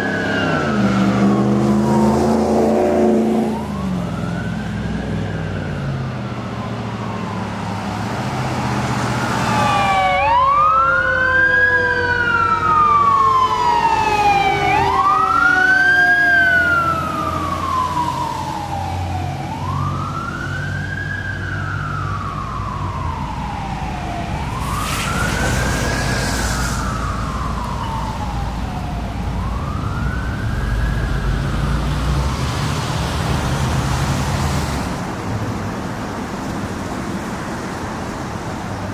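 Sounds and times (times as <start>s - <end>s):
second siren tone gliding down: 0.0s - 8.4s, 9.0s - 32.4s
fire truck siren wailing: 0.0s - 38.9s
low traffic rumble: 0.0s - 38.9s.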